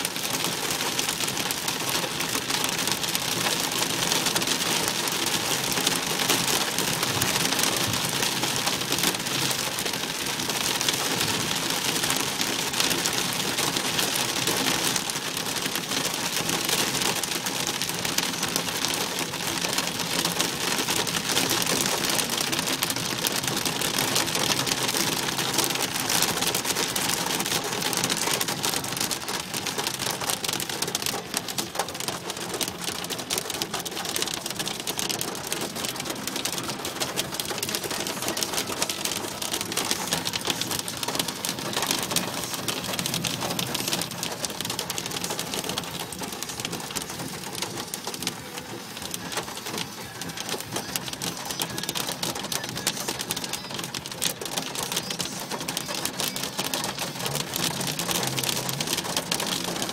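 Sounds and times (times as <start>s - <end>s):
rain on car roof: 0.0s - 59.9s.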